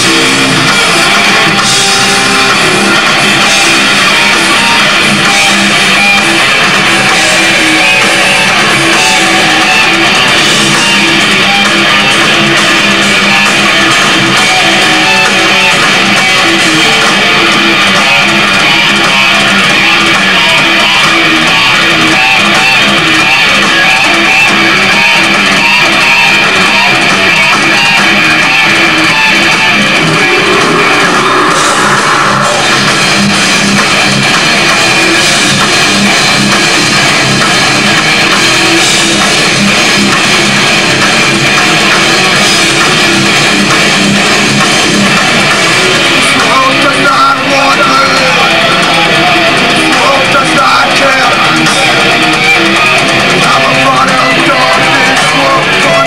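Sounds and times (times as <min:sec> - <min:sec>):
drum kit: 0:00.0 - 0:56.0
electric guitars: 0:00.0 - 0:56.0.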